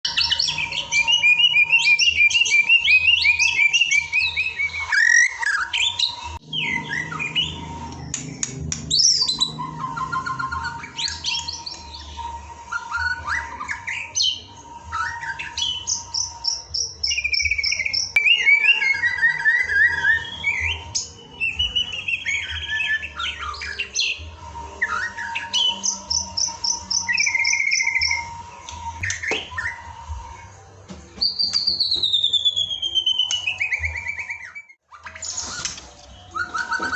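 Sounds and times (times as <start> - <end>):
songbird whistles and trills: 0.0 - 36.9.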